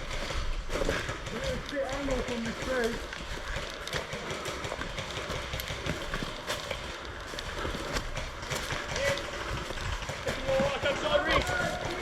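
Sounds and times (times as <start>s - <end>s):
footsteps shuffling: 0.0s - 12.0s
gear rustling: 0.0s - 12.0s.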